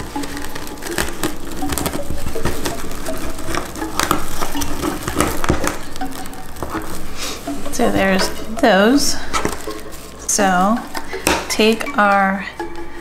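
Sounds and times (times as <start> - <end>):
plastic mesh ribbon crinkling: 0.0 - 12.8.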